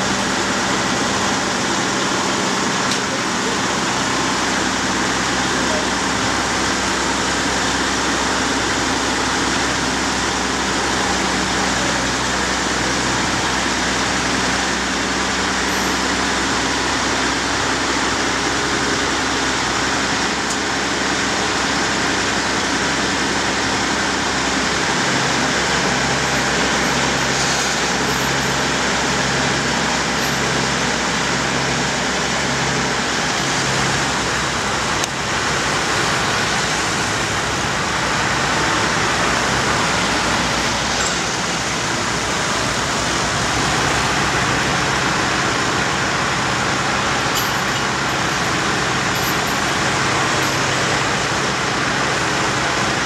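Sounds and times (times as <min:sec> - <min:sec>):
road and traffic noise: 0:00.0 - 0:53.0
truck engine running: 0:00.0 - 0:53.0.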